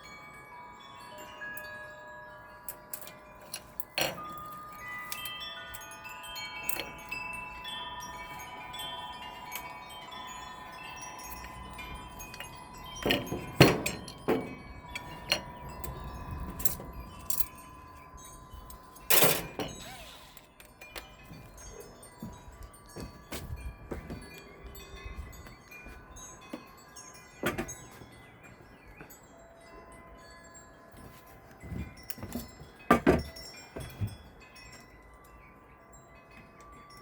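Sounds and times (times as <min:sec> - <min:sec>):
wind chimes ringing: 0:00.0 - 0:37.0.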